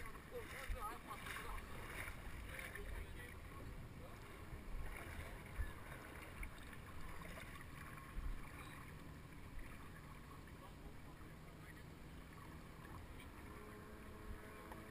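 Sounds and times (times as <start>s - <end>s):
faint water lapping: 0.0s - 14.9s
wind rumbling on microphone: 0.0s - 14.9s.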